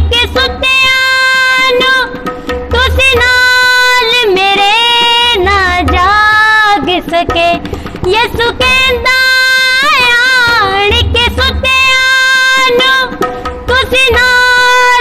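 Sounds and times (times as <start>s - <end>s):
tabla drums: 0.0s - 15.0s.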